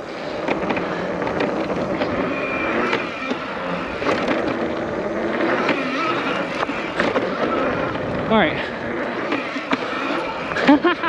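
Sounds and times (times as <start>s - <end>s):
electric bike motor whine: 0.0s - 11.0s
tyre noise on dirt: 0.0s - 11.0s.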